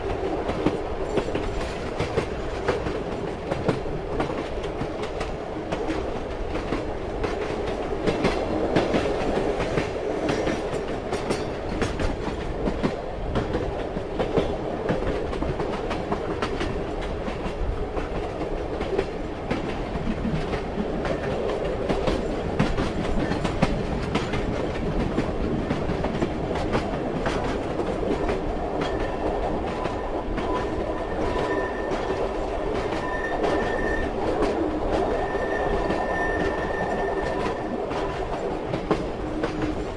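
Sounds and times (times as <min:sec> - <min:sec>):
continuous train rumble: 0:00.0 - 0:39.9
train wheels clattering over rail joints: 0:00.0 - 0:39.9.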